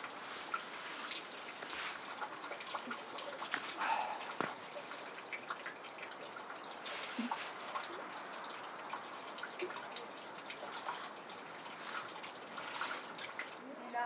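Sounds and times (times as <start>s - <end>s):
trickling dripping water: 0.0s - 14.0s.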